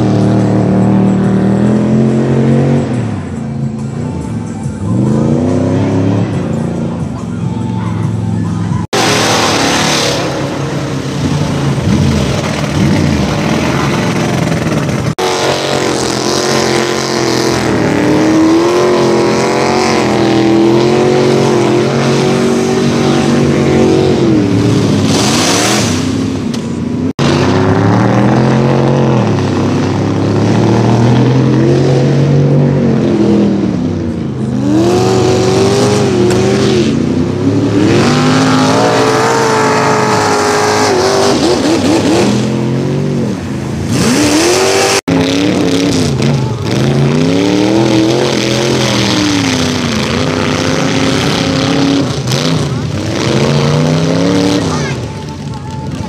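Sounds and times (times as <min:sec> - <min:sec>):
engines revving hard: 0:00.0 - 0:07.3, 0:08.0 - 0:56.0.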